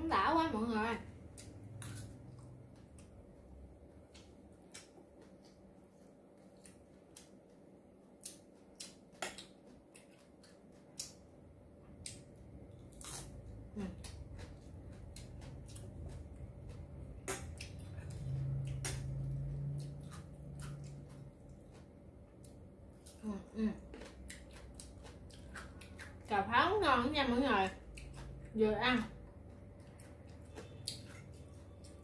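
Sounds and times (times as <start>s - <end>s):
low steady hum: 0.0s - 32.0s
chewing and crunching vegetables: 1.0s - 32.0s.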